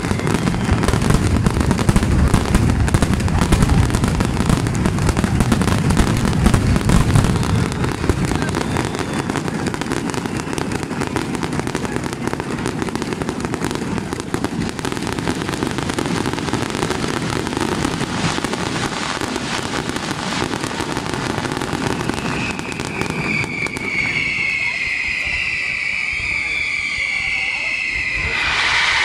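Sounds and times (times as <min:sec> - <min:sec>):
fireworks crackling pops: 0:00.0 - 0:29.0
low rumble of fireworks bursts: 0:00.0 - 0:29.0.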